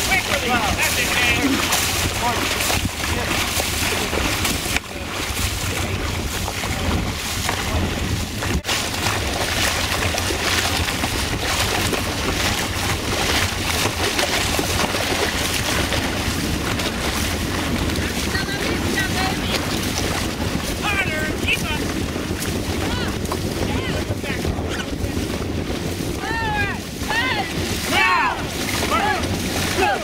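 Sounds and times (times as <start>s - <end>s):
paddles in water: 0.0s - 30.0s
water rushing and splashing: 0.0s - 30.0s
wind buffeting microphone: 0.0s - 30.0s.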